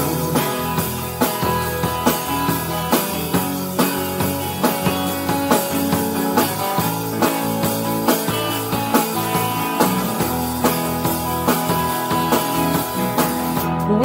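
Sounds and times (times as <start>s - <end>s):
drum kit steady beat: 0.0s - 14.0s
rock band playing: 0.0s - 14.0s
strummed guitars: 0.0s - 14.0s.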